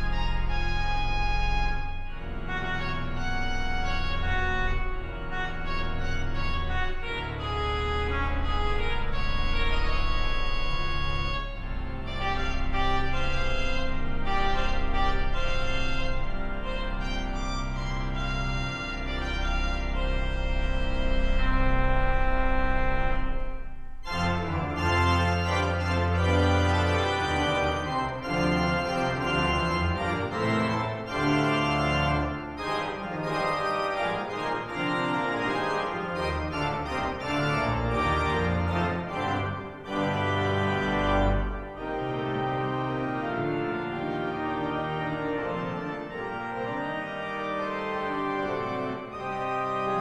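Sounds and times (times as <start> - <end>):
church pipe organ playing: 0.0 - 50.0.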